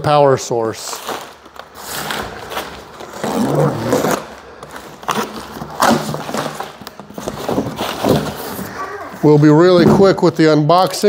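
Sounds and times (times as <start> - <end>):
cardboard scraping and rustling: 1.0 - 10.2.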